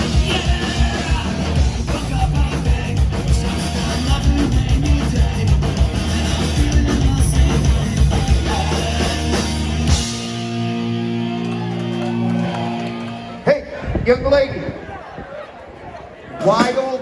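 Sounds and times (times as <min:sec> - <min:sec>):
punk rock music: 0:00.0 - 0:13.8
drums: 0:00.0 - 0:14.0, 0:16.3 - 0:17.0.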